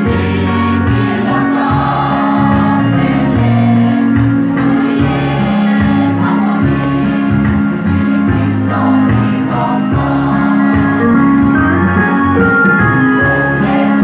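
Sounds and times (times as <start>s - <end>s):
mixed choir singing: 0.0s - 14.0s.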